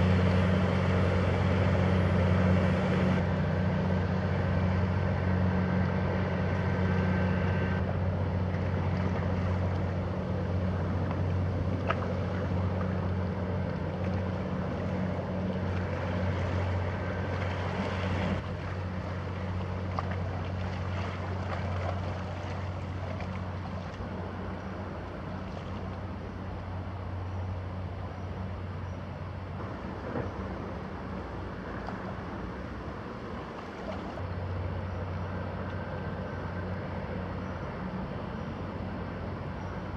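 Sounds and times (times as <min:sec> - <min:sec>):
boat diesel engine drone: 0:00.0 - 0:39.9.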